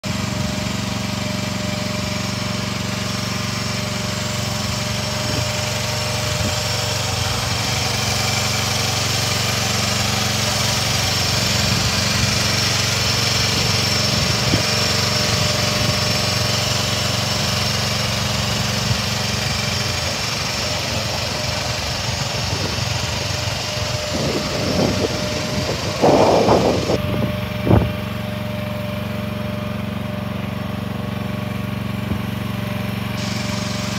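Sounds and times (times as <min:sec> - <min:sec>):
small excavator engine running: 0:00.0 - 0:33.9.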